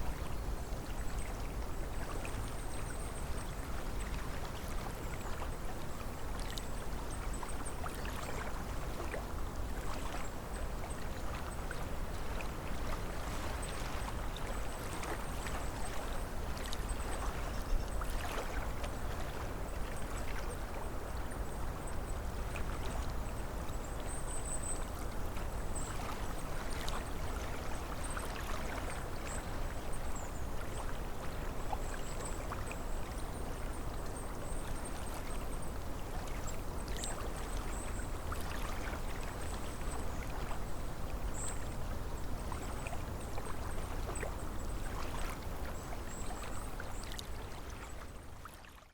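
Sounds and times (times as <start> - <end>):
low rumble of wind: 0.0 - 48.6
small waves lapping on shore: 0.0 - 48.9.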